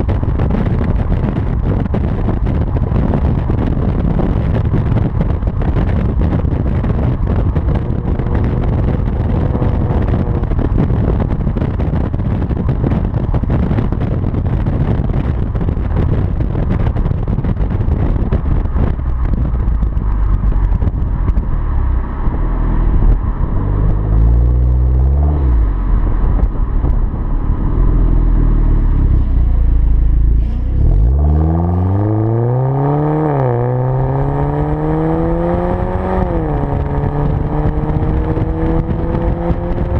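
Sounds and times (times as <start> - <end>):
car engine revving: 0.0 - 39.9
car exhaust rumbling: 0.0 - 39.9
wind on microphone: 0.0 - 39.9.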